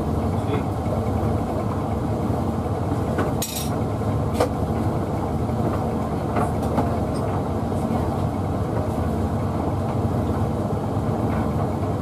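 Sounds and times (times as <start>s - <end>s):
tumble dryer drum rumbling: 0.0s - 12.0s.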